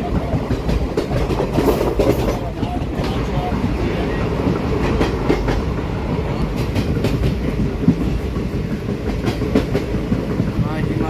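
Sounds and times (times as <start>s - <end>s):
train rumble: 0.0s - 11.0s
wheels clicking over rail joints: 0.0s - 11.0s.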